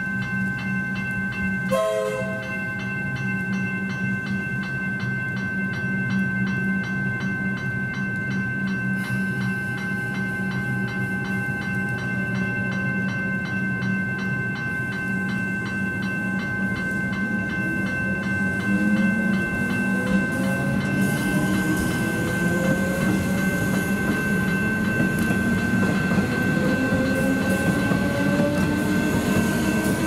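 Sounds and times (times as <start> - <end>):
level-crossing bells ringing: 0.0 - 30.0.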